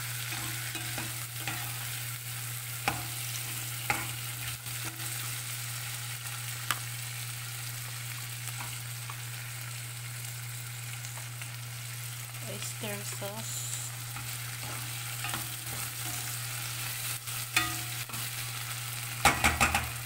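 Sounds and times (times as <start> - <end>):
food sizzling in a pot: 0.0 - 20.0.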